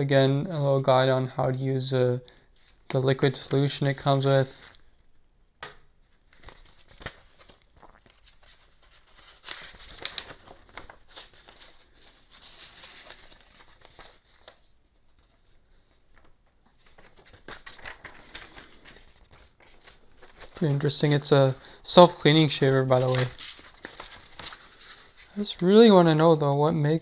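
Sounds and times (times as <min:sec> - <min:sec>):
paper rustling and crinkling: 0:02.6 - 0:04.9, 0:06.0 - 0:25.9
pages turning: 0:02.6 - 0:05.0, 0:06.0 - 0:25.9.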